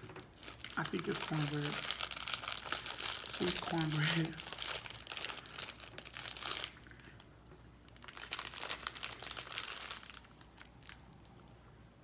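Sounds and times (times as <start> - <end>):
plastic snack wrapper crinkling: 0.0 - 11.6.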